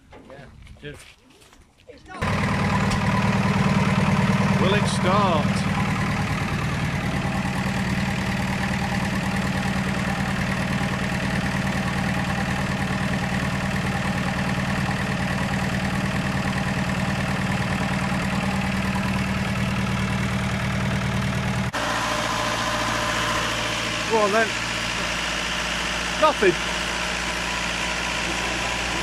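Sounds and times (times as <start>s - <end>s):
vehicle engine idling: 2.2s - 29.0s.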